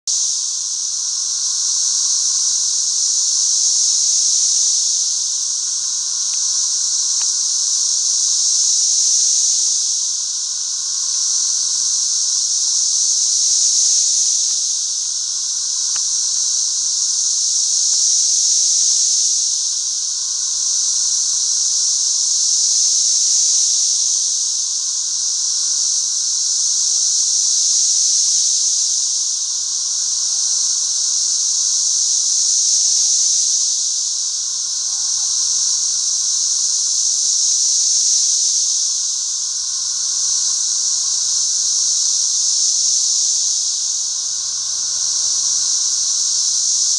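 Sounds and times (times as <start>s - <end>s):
cicadas droning: 0.1s - 46.9s.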